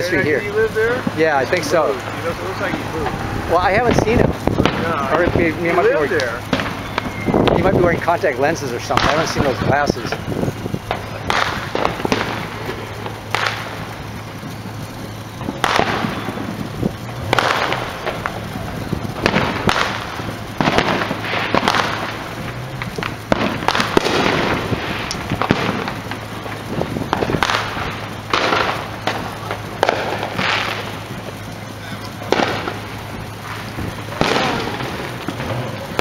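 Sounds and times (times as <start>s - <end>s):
firecrackers banging with echo: 0.0s - 36.0s.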